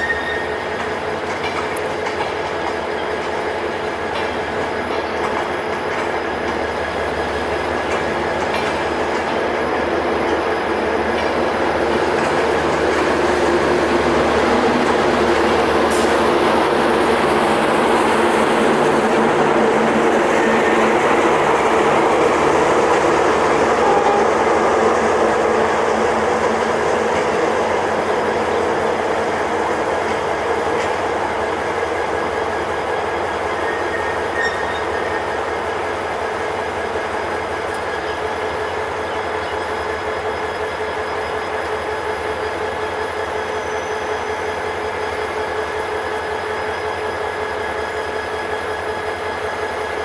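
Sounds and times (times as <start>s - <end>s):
train coaches rumbling on rails: 0.0s - 50.0s.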